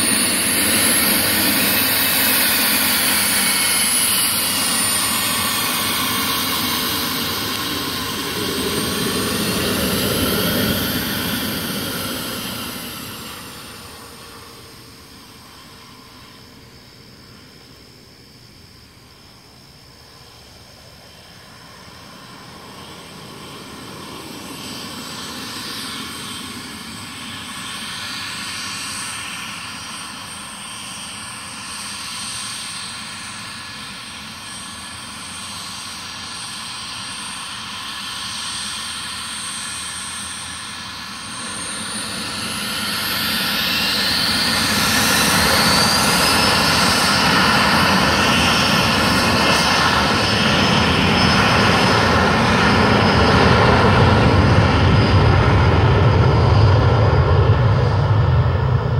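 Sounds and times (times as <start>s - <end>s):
small aircraft engines: 0.0s - 58.9s.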